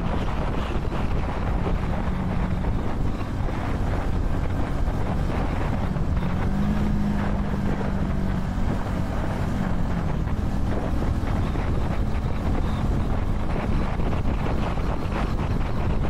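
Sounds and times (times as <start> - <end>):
motorcycle engine droning: 0.0 - 16.0
wind buffeting microphone: 0.0 - 16.0.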